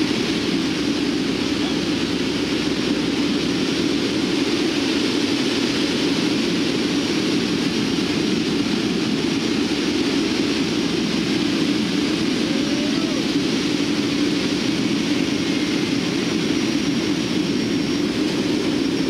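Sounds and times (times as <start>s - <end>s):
turboprop engines droning: 0.0s - 19.0s.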